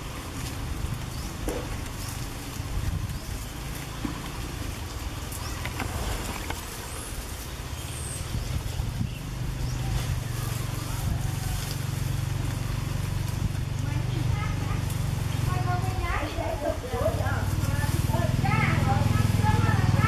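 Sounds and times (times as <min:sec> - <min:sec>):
low motor rumble: 0:00.0 - 0:20.0
rustling dry leaves: 0:00.0 - 0:20.0.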